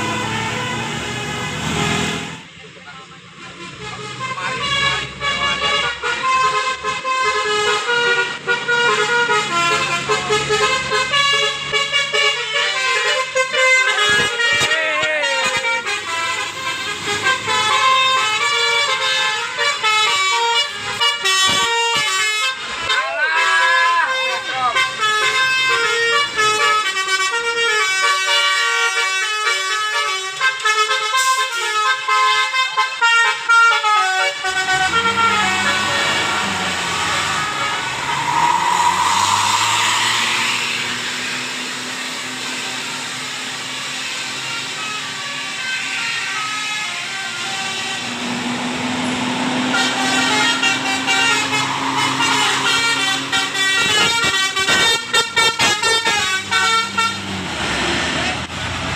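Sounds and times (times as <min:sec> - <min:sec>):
musical bus horn tune: 0:00.0 - 0:02.4, 0:03.5 - 0:57.4.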